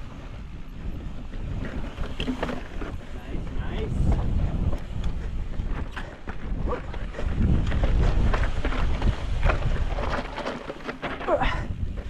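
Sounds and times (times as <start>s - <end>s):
wind rumbling on microphone: 0.0s - 12.0s
bike clicks and rattles: 1.1s - 12.0s.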